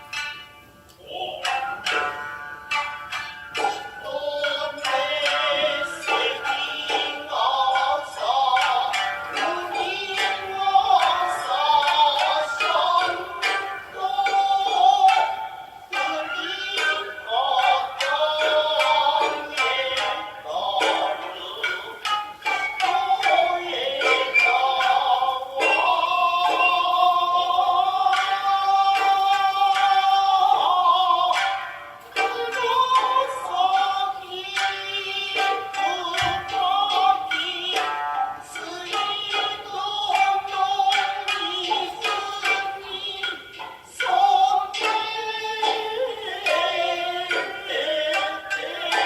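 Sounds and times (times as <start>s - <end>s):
plucked string notes: 0.0s - 49.0s
person singing long wavering notes: 0.9s - 49.0s.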